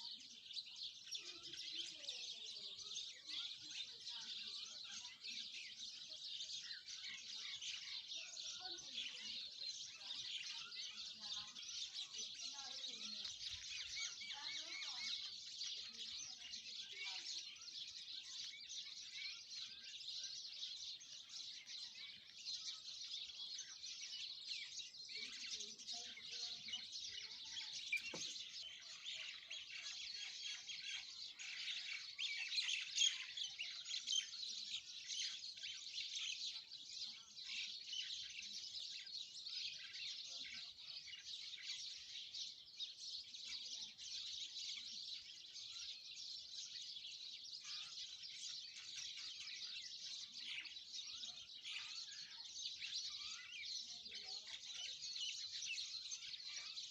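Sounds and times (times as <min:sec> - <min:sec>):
flock of small birds chirping: 0:00.0 - 0:56.9.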